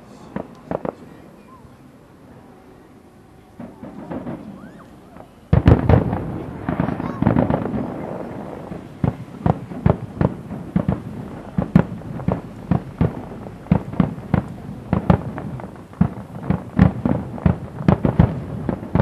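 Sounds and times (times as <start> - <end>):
firework shells bursting: 3.6 - 19.0.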